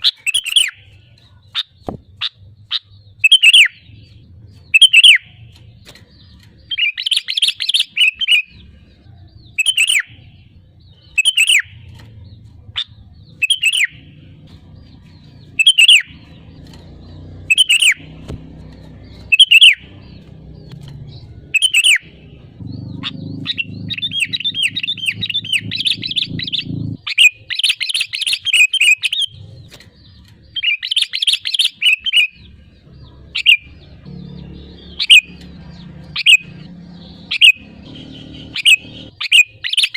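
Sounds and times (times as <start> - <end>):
bird calling: 0.0 - 39.9
rapid chattering birdsong: 0.0 - 39.9.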